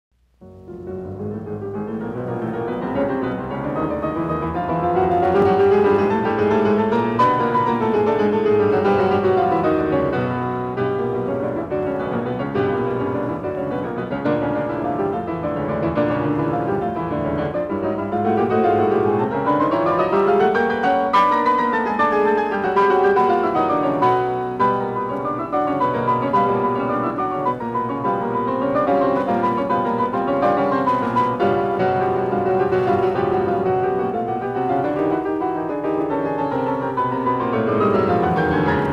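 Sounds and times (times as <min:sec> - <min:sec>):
piano music: 0:00.3 - 0:38.9.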